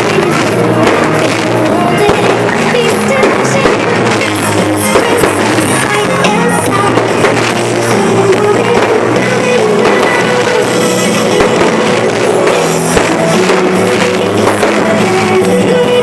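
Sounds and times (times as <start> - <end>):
pop-rock song over sound system: 0.0 - 16.0.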